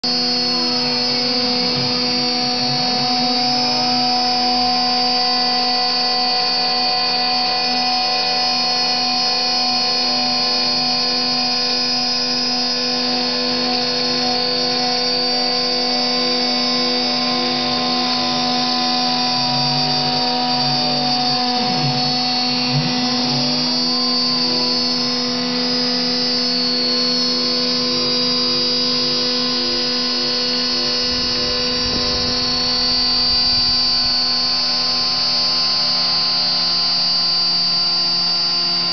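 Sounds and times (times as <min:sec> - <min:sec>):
axis drive motors whining: 0:00.0 - 0:38.9
spindle motor whine: 0:00.0 - 0:38.9.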